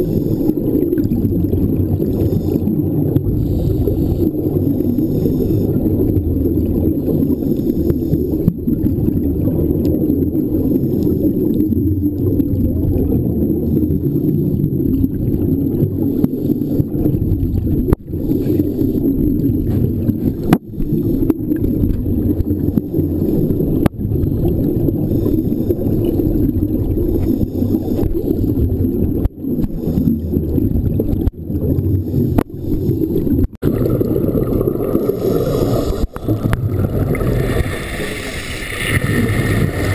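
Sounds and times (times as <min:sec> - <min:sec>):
muffled underwater rumbling wash: 0:00.0 - 0:39.9.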